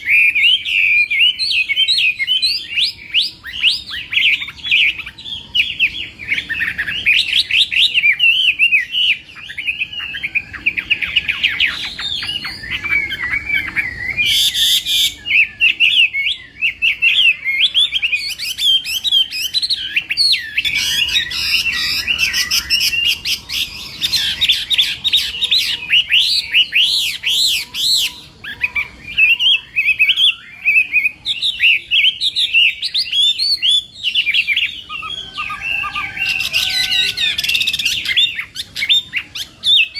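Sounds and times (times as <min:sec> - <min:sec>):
bird singing whistled notes: 0:00.0 - 0:39.9
harsh bird call: 0:00.0 - 0:39.9.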